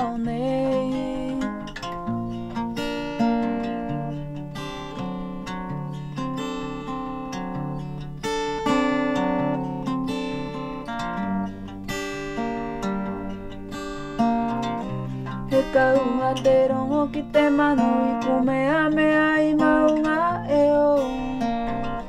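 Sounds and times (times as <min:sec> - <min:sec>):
acoustic guitar chords ringing: 0:00.0 - 0:22.0.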